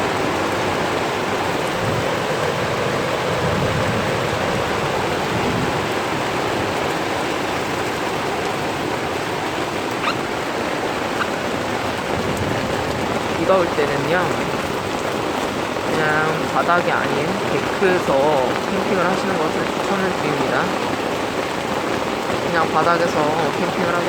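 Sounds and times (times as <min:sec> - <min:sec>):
torrential rain pouring: 0:00.0 - 0:24.0.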